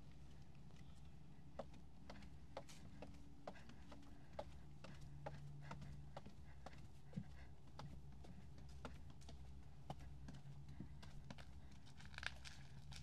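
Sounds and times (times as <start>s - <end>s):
steady low hum: 0.0s - 13.0s
footsteps clicking: 0.2s - 13.0s.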